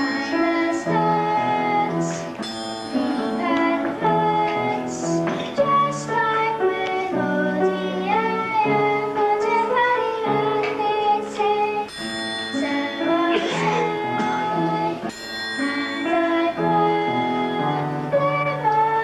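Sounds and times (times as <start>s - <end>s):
child singing: 0.0s - 2.4s, 3.0s - 11.9s, 12.5s - 19.0s
instrumental accompaniment: 0.0s - 19.0s.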